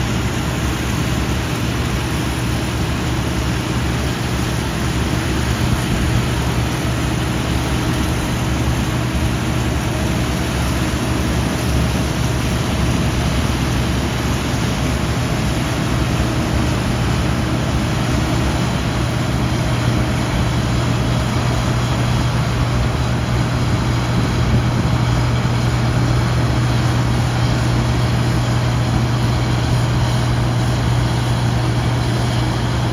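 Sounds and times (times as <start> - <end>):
combine harvester engine drone: 0.0 - 32.9.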